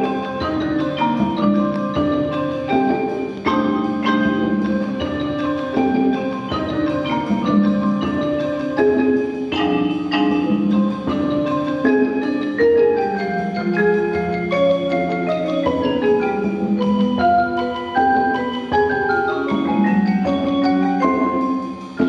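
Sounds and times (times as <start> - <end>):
mallet instruments ringing notes: 0.0 - 22.0
percussion ensemble playing: 0.0 - 22.0.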